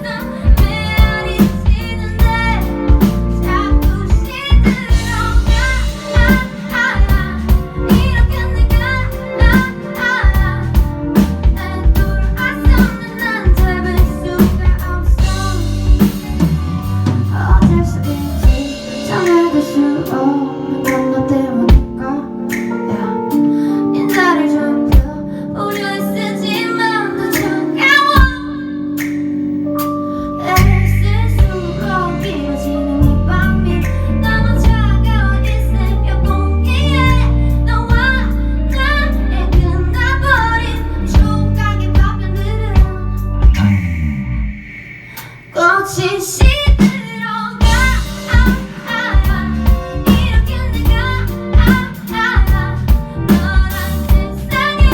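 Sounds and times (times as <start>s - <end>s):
woman singing: 0.0s - 16.3s, 17.0s - 29.0s, 30.2s - 43.5s, 45.5s - 54.9s
band playing drums bass guitar: 0.0s - 22.8s, 30.5s - 44.3s, 46.4s - 54.9s.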